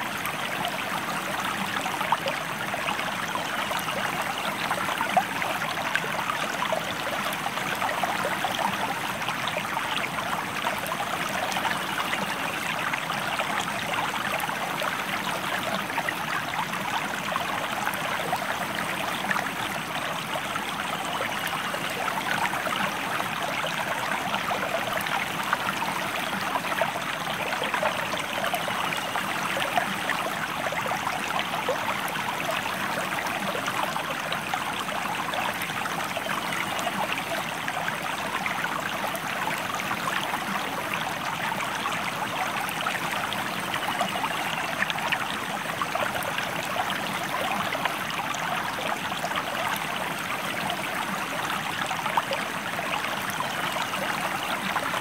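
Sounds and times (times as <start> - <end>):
river flowing: 0.0 - 55.0.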